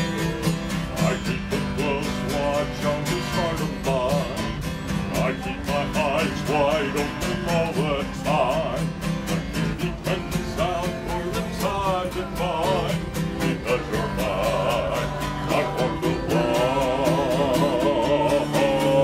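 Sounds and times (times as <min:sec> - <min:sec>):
acoustic guitar strumming: 0:00.0 - 0:19.0
man singing country song: 0:00.0 - 0:19.0.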